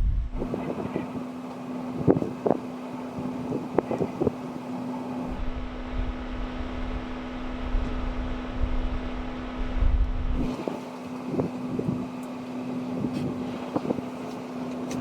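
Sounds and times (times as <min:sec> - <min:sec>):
wind buffeting microphone: 0:00.0 - 0:04.5, 0:05.2 - 0:12.2, 0:12.9 - 0:15.0
vehicle road noise hum: 0:00.0 - 0:15.0.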